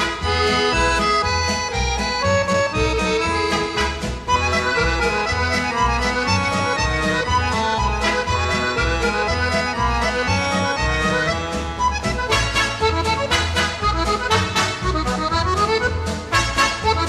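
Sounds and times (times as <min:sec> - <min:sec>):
instrumental music with bass beat: 0:00.0 - 0:17.0.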